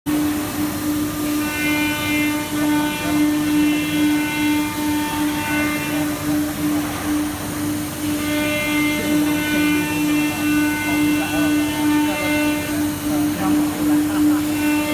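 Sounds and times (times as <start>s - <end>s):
machine noise: 0.1s - 14.9s
router spindle whining: 0.8s - 14.9s.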